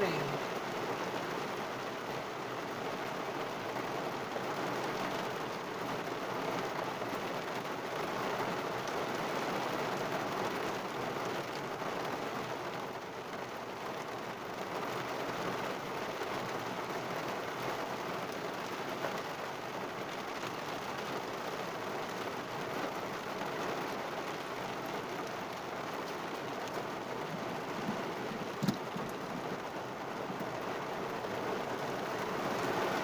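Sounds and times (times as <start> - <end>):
heavy rain on a car roof: 0.0 - 33.0.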